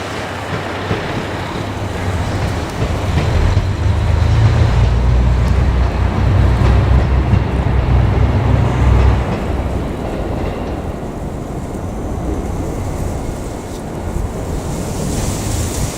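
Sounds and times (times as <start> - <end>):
diesel railcar engine rumble: 0.0 - 15.9
steady rushing noise: 0.0 - 15.9.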